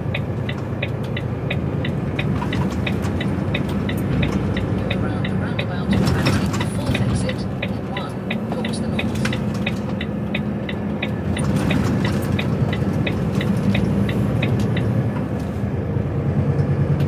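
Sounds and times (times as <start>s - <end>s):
indicator relay ticking: 0.0s - 15.0s
diesel engine running: 0.0s - 17.0s
road noise: 0.0s - 17.0s.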